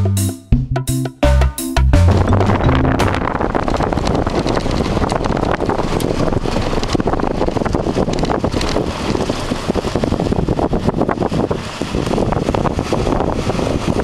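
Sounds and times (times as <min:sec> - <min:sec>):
tyres rumbling on sand: 0:01.8 - 0:14.0
wind buffeting microphone: 0:02.0 - 0:14.0.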